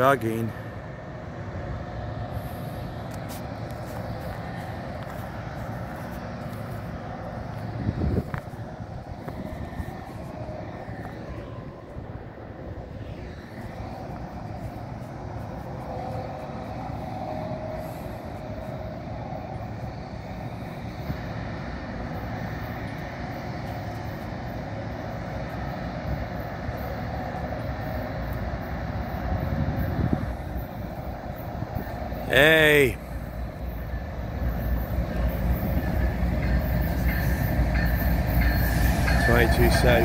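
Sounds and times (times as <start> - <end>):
diesel locomotives rumbling: 0.0 - 40.0.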